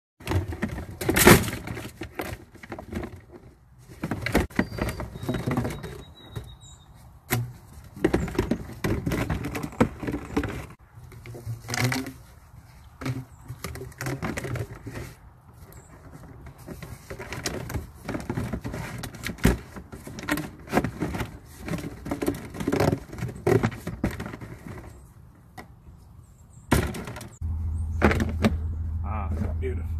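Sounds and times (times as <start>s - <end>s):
plastic hose rustling and knocking: 0.2s - 25.8s, 26.7s - 27.4s, 28.0s - 28.7s.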